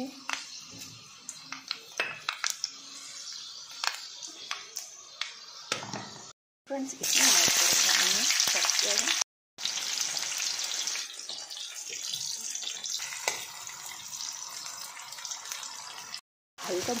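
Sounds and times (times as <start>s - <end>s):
onions sizzling in hot oil: 0.0s - 5.8s, 6.7s - 17.0s.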